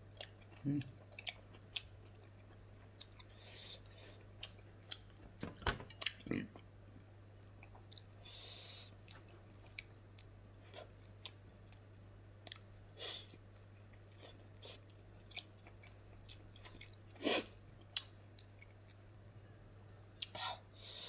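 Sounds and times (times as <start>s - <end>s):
person chewing food: 0.0s - 5.4s, 7.6s - 19.1s
faint low hum: 0.0s - 21.0s.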